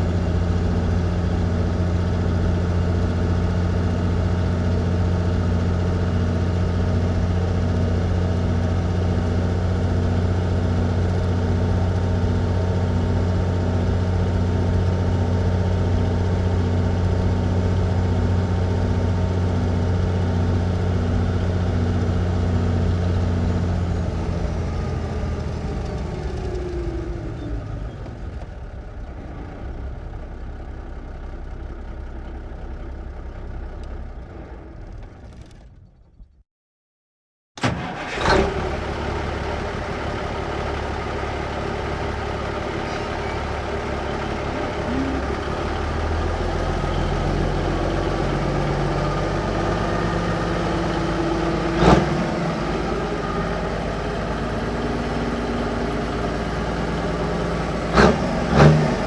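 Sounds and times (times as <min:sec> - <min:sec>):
truck engine running: 0:00.0 - 0:35.8, 0:37.6 - 0:59.0.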